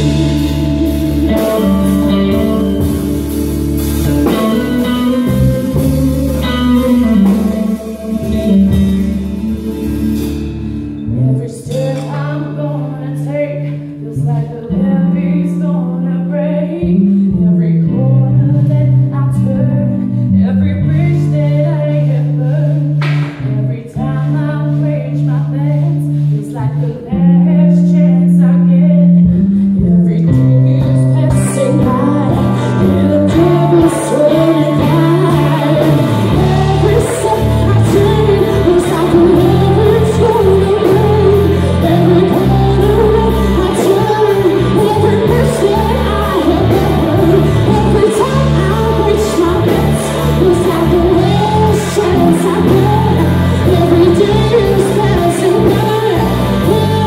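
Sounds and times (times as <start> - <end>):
live rock band playing: 0.0 - 57.0
woman singing: 0.0 - 57.0.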